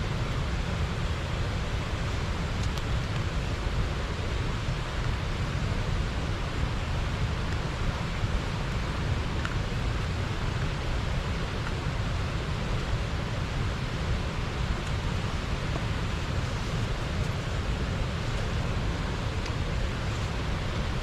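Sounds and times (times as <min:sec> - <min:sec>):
river water pouring over weir: 0:00.0 - 0:21.0.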